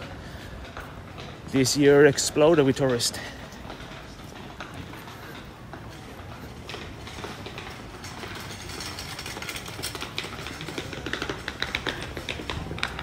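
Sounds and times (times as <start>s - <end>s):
footsteps on cobblestones: 0.0s - 13.0s
street background noise: 0.0s - 13.0s.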